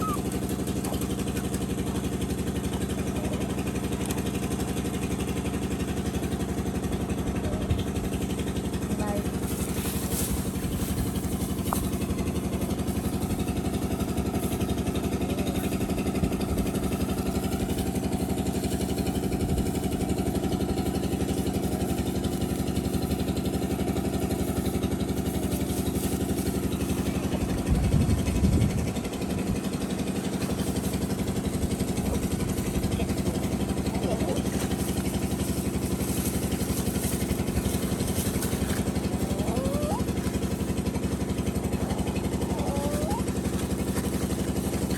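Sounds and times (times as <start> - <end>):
low engine rumble: 0.0 - 44.9
small engine idling: 0.0 - 44.9.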